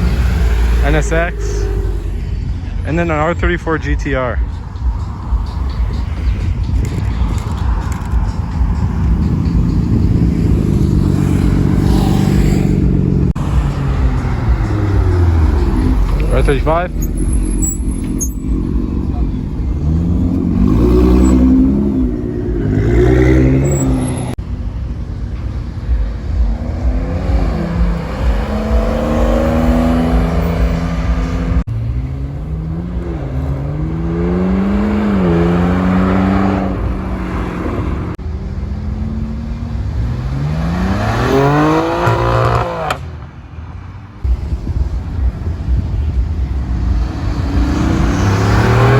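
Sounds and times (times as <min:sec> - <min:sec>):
steady low rumble: 0:00.0 - 0:35.3, 0:44.2 - 0:48.9
sports car engines revving: 0:00.0 - 0:48.9.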